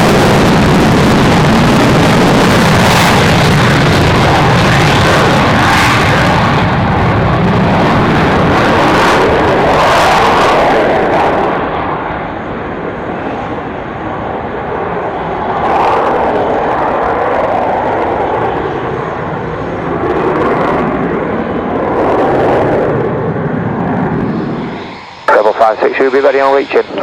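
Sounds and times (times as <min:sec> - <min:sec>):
aircraft engines running: 0:00.0 - 0:27.0.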